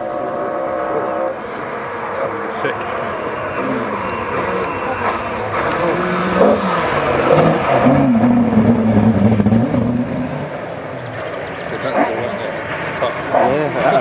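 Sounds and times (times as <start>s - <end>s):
rally car engine revving: 0.4s - 14.0s.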